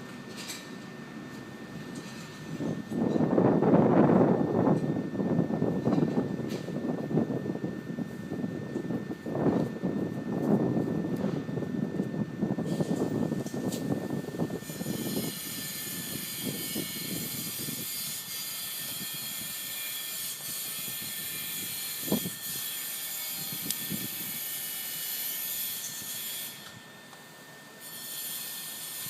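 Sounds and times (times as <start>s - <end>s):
stove fan whirring with whine: 0.0s - 29.0s.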